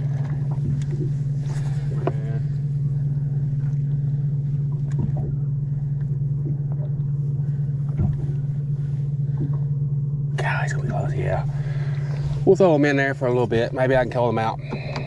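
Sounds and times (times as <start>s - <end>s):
low boat motor hum: 0.0s - 15.0s.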